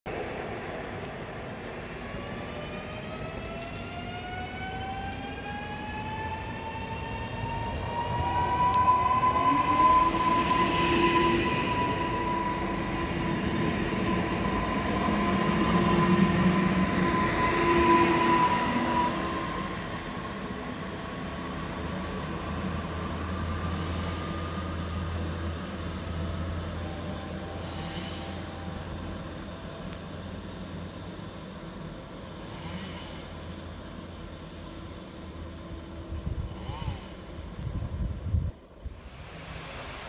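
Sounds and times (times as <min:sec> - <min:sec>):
rail running noise: 0:00.1 - 0:40.0.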